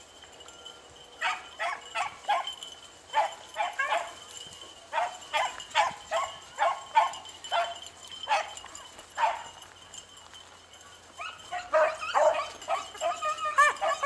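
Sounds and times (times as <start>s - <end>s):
beagles baying: 0.6s - 9.6s, 10.9s - 14.0s.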